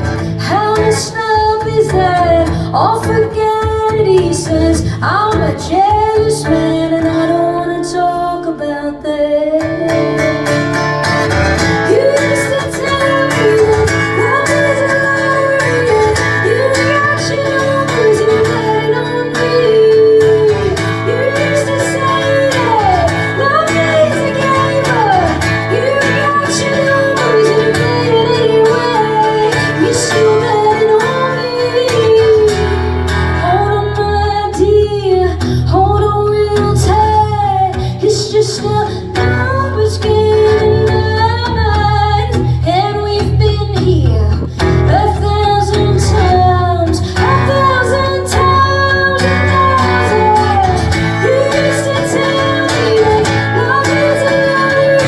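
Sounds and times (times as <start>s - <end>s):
guitar accompaniment: 0.0s - 55.0s
woman singing: 0.0s - 55.0s.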